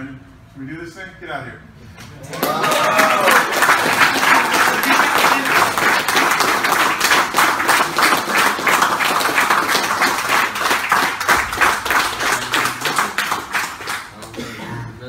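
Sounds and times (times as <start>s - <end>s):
people applauding: 2.2s - 14.4s.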